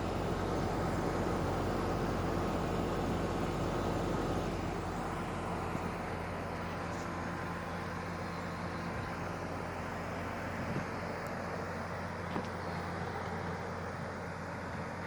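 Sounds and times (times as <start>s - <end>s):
heat pump compressor humming: 0.0s - 15.0s.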